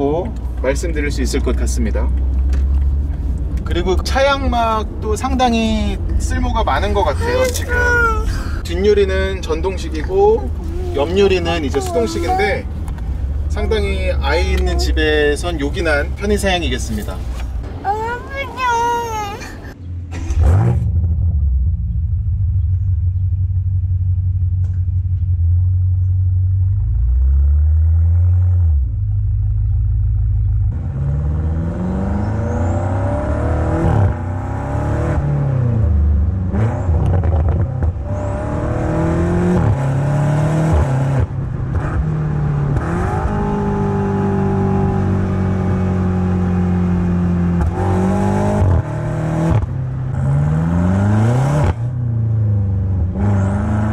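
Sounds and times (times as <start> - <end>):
car exhaust idling and revving: 0.0 - 19.0, 19.7 - 53.9.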